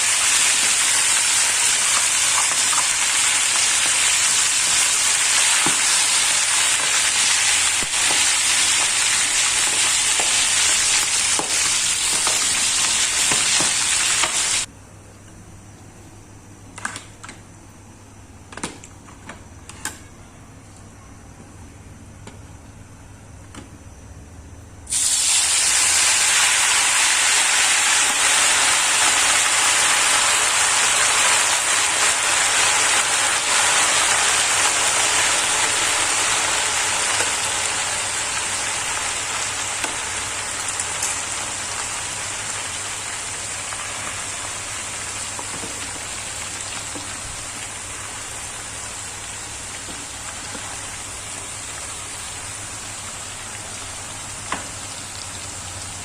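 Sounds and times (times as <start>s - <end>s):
food sizzling in hot oil: 0.0s - 14.7s, 24.9s - 56.0s.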